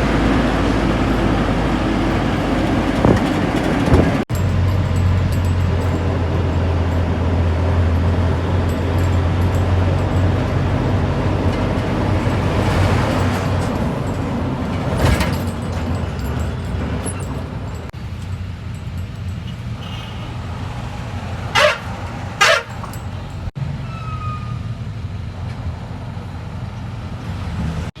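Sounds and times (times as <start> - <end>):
truck engine running: 0.0 - 23.5.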